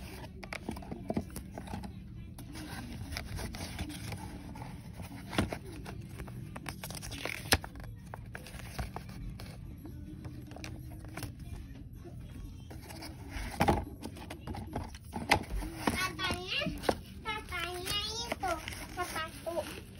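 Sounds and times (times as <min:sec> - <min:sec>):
paper rustling and scraping: 0:00.0 - 0:09.6, 0:12.7 - 0:19.9.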